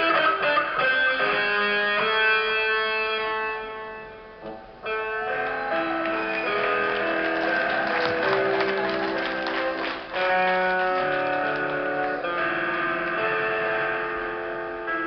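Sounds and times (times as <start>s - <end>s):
electric guitar solo: 0.0s - 15.0s.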